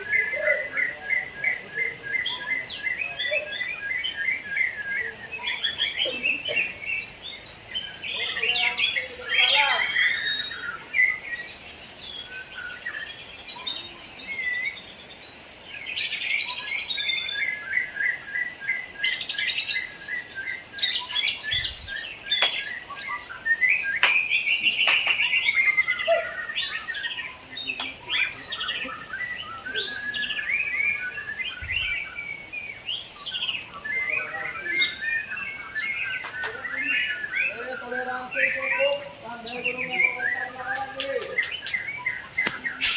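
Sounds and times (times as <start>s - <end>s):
songbirds trilling and chirping: 0.0s - 42.9s.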